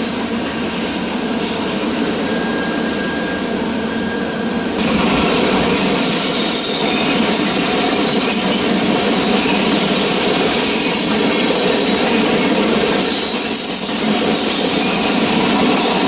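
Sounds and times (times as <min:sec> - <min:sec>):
high wheel squeal: 0:00.0 - 0:16.0
train cars rumbling past: 0:00.0 - 0:16.0.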